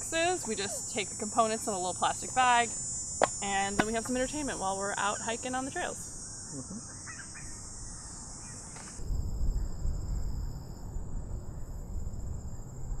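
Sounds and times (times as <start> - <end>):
insects chirping in grass: 0.0 - 13.0.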